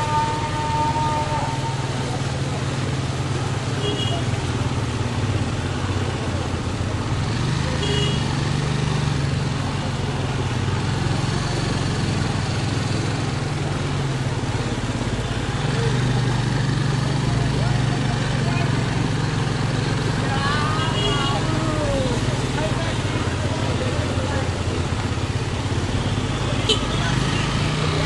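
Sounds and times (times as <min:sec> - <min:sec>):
motorcycle engine running: 0:00.0 - 0:28.0
water splashing around wheels: 0:00.0 - 0:28.0.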